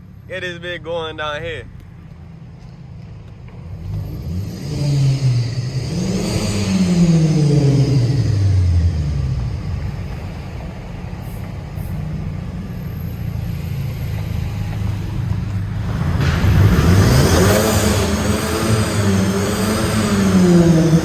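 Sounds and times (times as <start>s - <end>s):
sports car engine accelerating: 2.6s - 21.0s.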